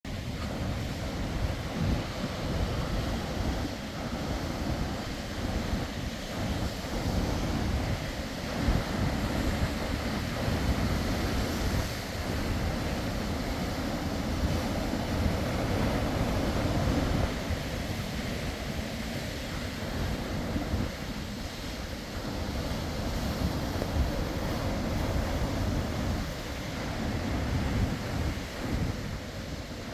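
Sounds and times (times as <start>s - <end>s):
sea waves breaking on shore: 0.1s - 29.9s
wind buffeting microphone: 0.1s - 29.9s.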